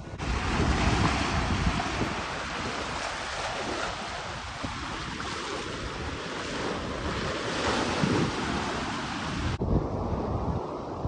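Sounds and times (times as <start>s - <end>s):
sea waves washing ashore: 0.0s - 11.0s
wind buffeting microphone: 0.0s - 11.0s.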